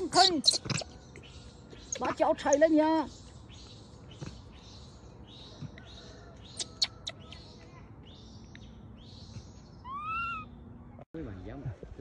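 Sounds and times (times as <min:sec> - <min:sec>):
birds with raspy chirps: 0:00.0 - 0:11.6.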